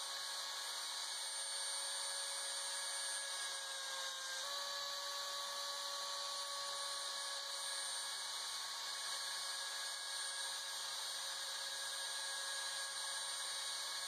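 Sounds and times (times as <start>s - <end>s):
router spindle motor whine: 0.0s - 14.0s.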